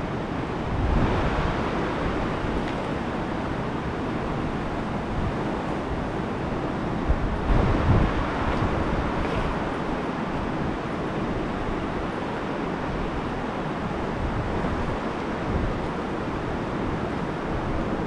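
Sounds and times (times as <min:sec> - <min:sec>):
steady rushing wind-like noise: 0:00.0 - 0:18.0.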